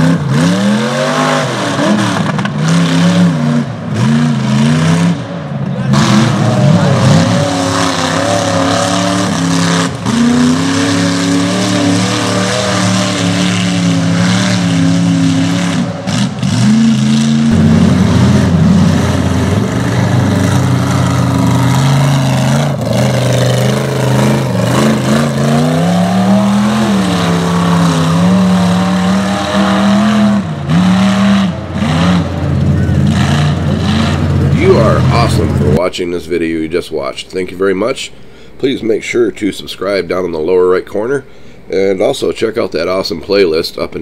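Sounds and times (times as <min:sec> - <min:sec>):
truck engine revving: 0:00.0 - 0:35.8.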